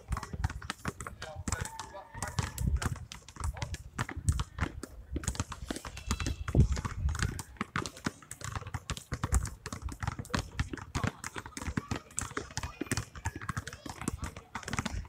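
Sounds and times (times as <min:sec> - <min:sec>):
basketballs dribbled on asphalt: 0:00.0 - 0:15.0.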